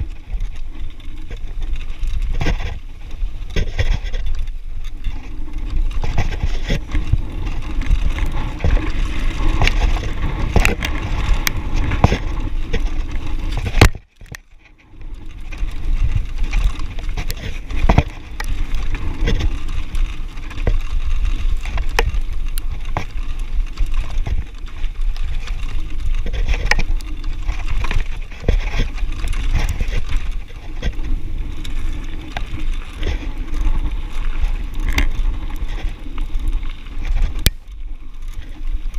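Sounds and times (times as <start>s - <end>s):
bike chain and frame rattling: 0.0s - 38.9s
tyres crunching on gravel: 0.0s - 38.9s
wind on microphone: 0.0s - 38.9s.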